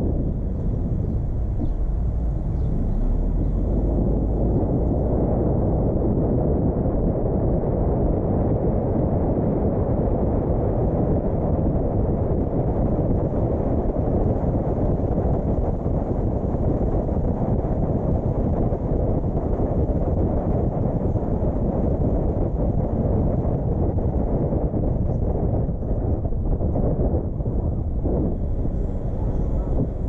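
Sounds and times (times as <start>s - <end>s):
car road noise: 0.0s - 30.0s
wind rumbling on microphone: 0.0s - 30.0s.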